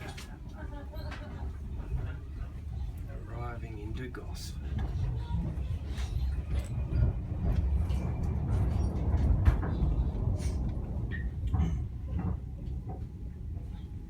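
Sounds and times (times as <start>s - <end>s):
train carriage rumble: 0.0s - 14.0s.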